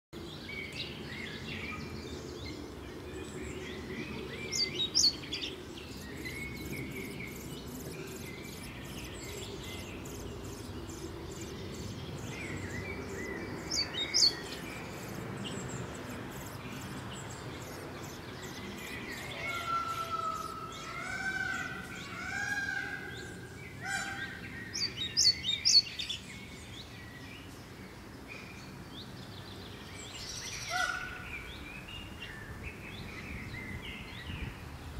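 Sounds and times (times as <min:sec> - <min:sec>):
birds singing faintly: 0:00.2 - 0:34.9.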